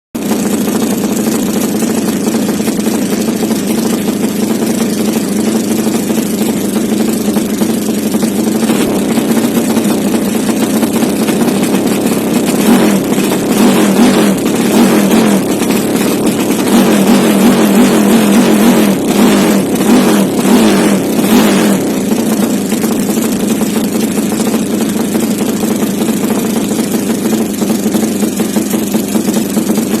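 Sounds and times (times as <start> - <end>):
motorcycle engine idling and revving: 0.2 - 30.0.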